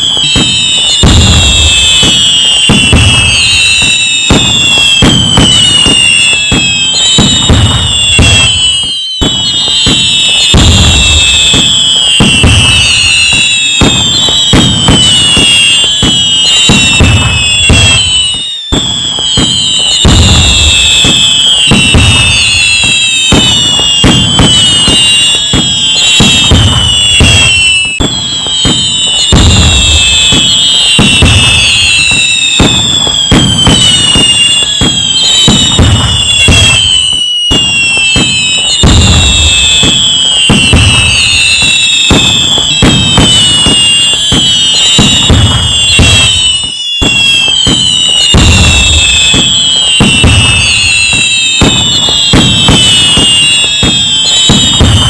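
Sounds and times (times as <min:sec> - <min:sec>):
fireworks bangs and crackles: 0:00.0 - 0:55.0
fireworks whistles falling in pitch: 0:00.0 - 0:55.0.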